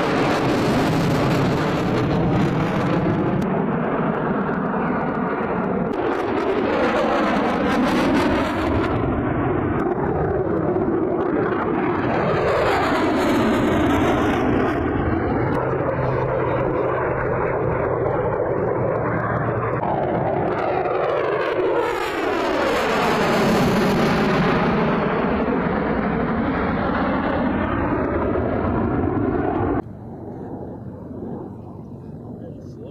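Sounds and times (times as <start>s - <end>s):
jet aircraft flying past: 0.0s - 32.9s.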